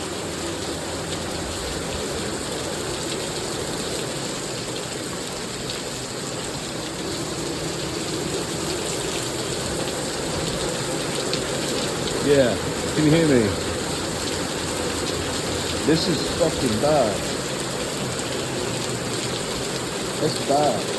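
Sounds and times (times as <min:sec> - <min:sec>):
heavy rain pattering: 0:00.0 - 0:20.9.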